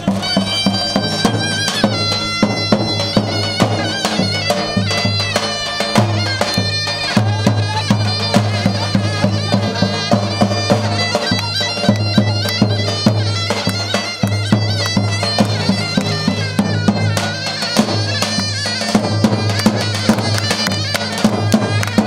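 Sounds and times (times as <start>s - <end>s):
large drum beats: 0.0s - 22.0s
shrill reedy folk melody: 0.0s - 22.0s.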